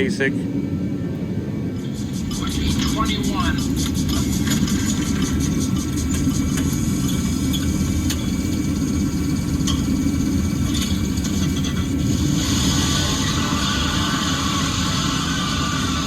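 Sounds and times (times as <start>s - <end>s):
vehicle engine running: 1.8s - 16.0s.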